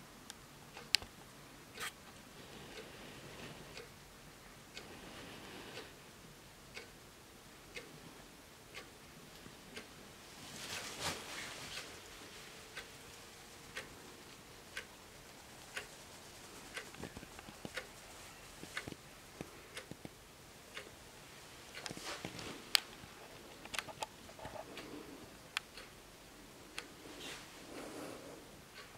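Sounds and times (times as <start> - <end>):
wall clock ticking: 0.0 - 28.9.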